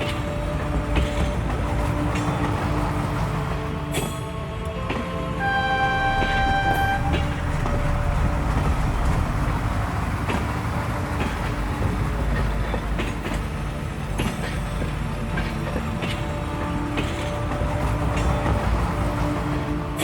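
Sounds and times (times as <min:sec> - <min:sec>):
train rumbling: 0:00.0 - 0:20.0
wheels clicking over rails: 0:00.0 - 0:20.0.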